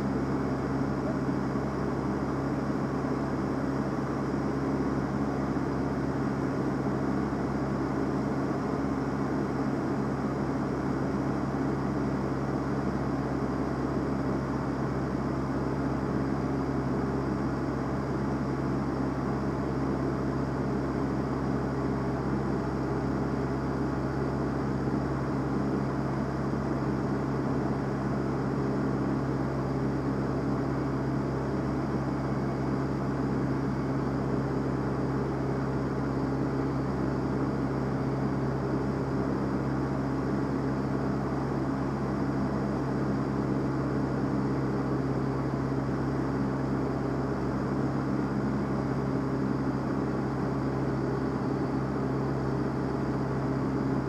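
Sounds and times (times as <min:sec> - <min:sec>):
aircraft engine and propeller droning: 0:00.0 - 0:54.0.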